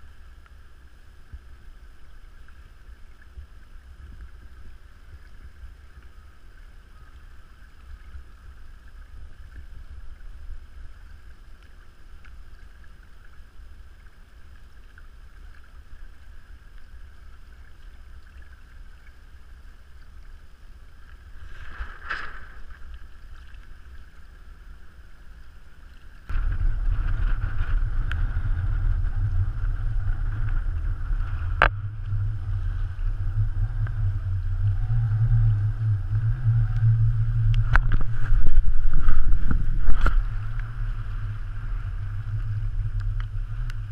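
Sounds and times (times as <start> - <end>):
water rushing along hulls: 0.0 - 43.9
wind rumbling on microphone: 0.0 - 43.9.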